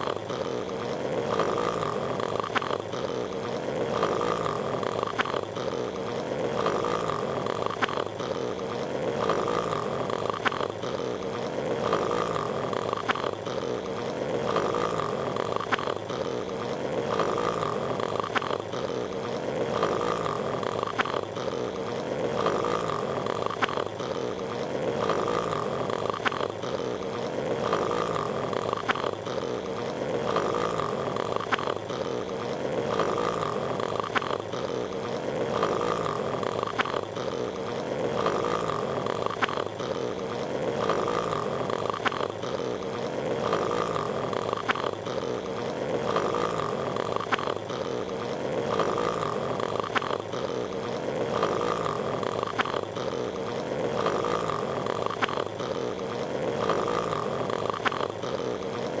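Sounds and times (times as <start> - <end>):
cartoon snoring: 0.0 - 59.0
faint regular clicks: 0.0 - 59.0.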